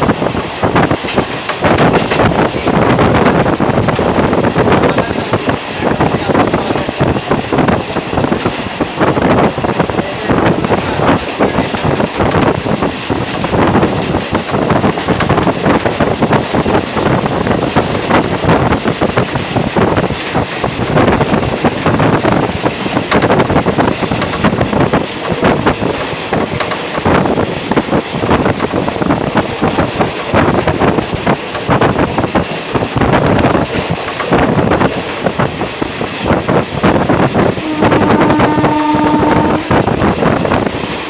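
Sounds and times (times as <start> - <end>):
train rattling at speed: 0.0 - 41.0
wind buffeting microphone: 0.0 - 41.0.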